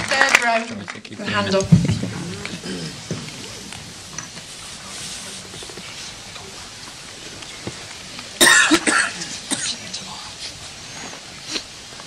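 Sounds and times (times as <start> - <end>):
audience murmur and rustle: 0.0 - 12.0.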